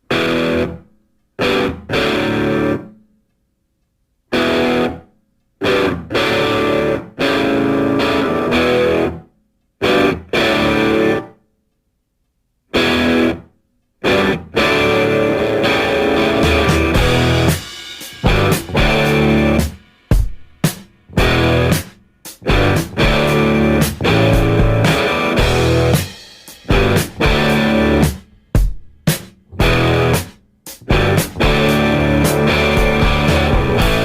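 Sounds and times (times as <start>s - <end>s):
distorted electric guitar chords: 0.0s - 0.8s, 1.4s - 3.0s, 4.3s - 11.4s, 12.7s - 34.0s.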